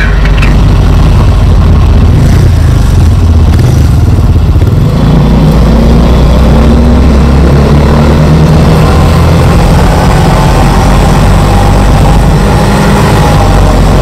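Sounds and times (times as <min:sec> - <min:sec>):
two-stroke car engine drone: 0:00.0 - 0:14.0.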